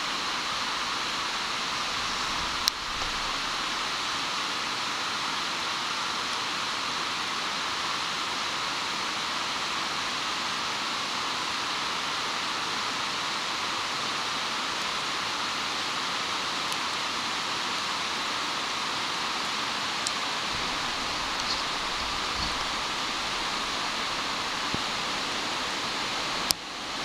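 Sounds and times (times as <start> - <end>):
bonfire hissing: 0.0 - 27.0.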